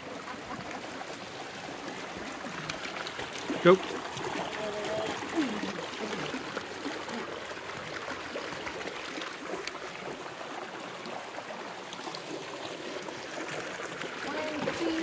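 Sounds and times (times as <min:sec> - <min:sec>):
creek trickling over rocks: 0:00.0 - 0:15.0.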